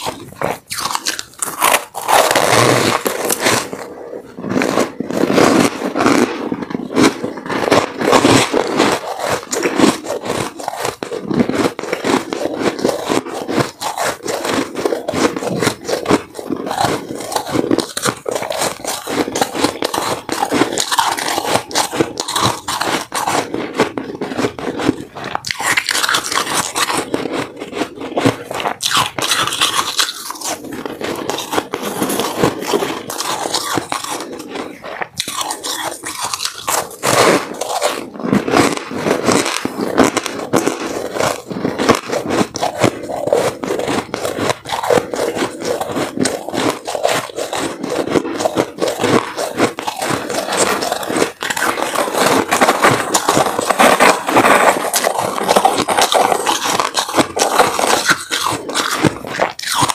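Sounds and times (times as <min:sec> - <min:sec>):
ice chunks crunching when chewed: 0:00.0 - 0:59.9.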